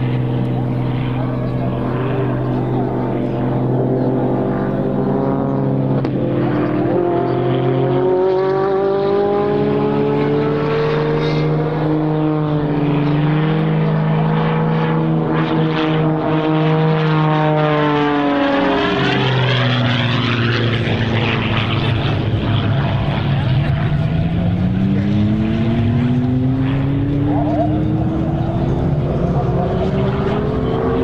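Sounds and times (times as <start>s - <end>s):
propeller plane engine: 0.0s - 31.0s.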